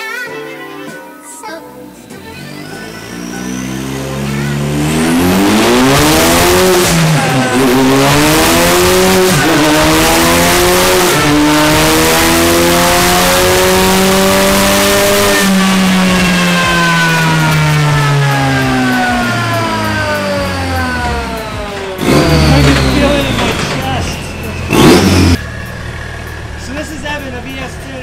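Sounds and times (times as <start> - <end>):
car engine revving: 2.0 - 28.0.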